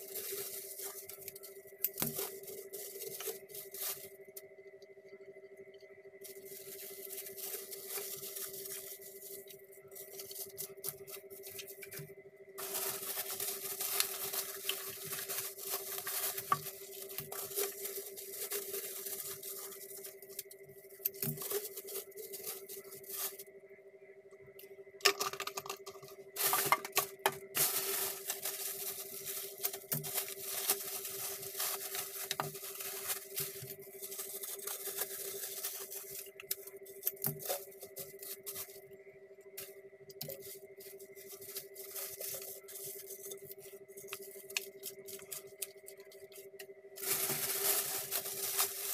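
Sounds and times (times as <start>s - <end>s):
plastic packaging crinkling: 0.0s - 4.2s, 6.2s - 23.4s, 25.0s - 38.8s, 39.6s - 46.4s, 47.0s - 48.9s
steady hum: 0.0s - 48.9s.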